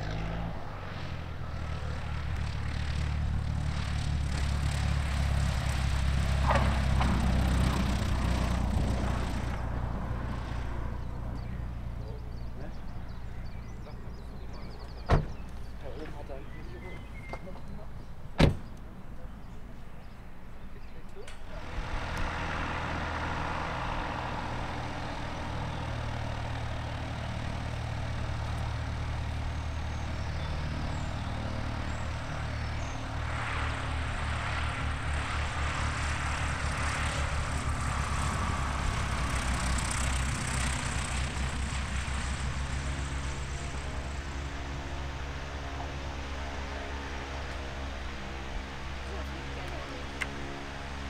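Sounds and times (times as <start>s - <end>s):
light aircraft engine droning: 0.0s - 51.0s.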